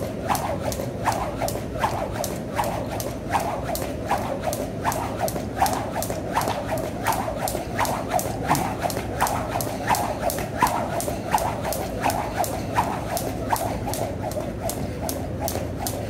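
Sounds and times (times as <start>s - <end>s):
jump rope slapping floor: 0.0s - 16.0s.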